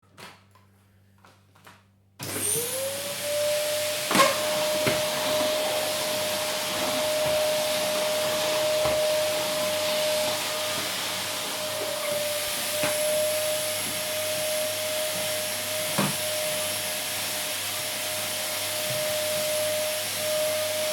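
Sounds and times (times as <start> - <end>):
vacuum cleaner running: 2.2 - 20.9.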